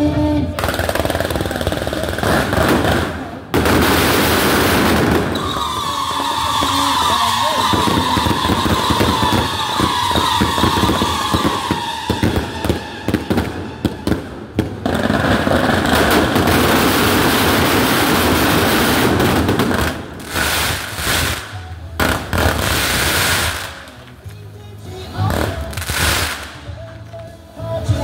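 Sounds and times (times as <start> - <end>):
firework bangs: 0.6 - 24.0, 25.2 - 26.7
firework crackle: 0.6 - 27.4.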